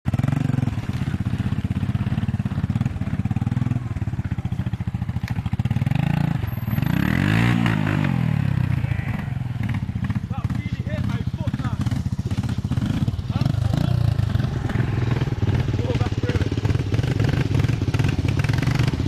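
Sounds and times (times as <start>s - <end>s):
quad bike engine revving: 0.1s - 19.0s.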